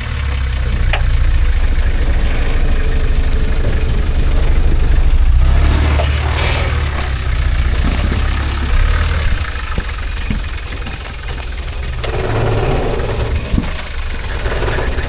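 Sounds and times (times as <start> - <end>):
truck engine deep rumble: 0.0 - 15.0.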